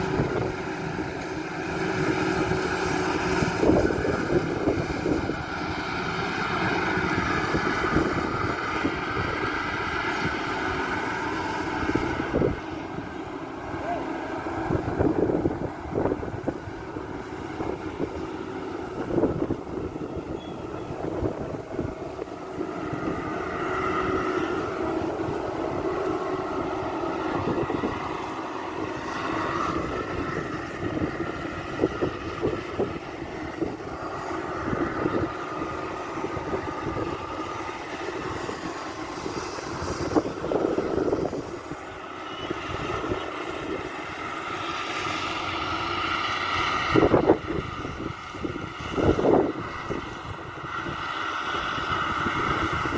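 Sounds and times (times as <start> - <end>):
combine harvester engine droning: 0.0 - 52.9
wind gusts on microphone: 0.0 - 52.9.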